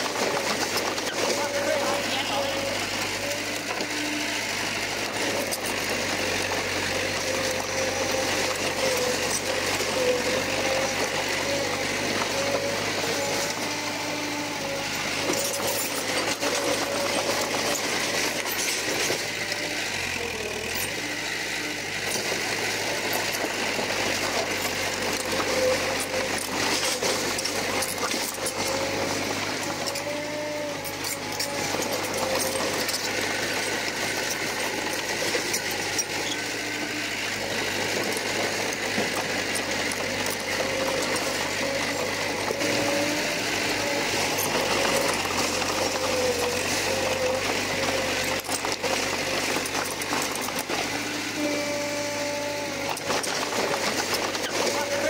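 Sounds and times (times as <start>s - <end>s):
bulldozer engine drone: 0.0s - 55.0s
clanks and rattles: 0.0s - 55.0s.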